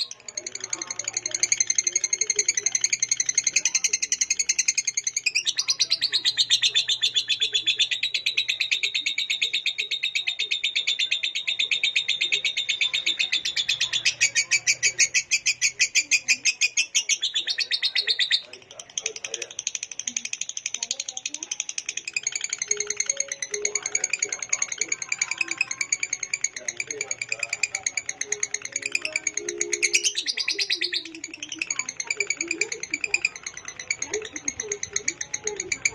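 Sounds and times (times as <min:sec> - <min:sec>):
lovebird chattering: 0:00.0 - 0:35.9.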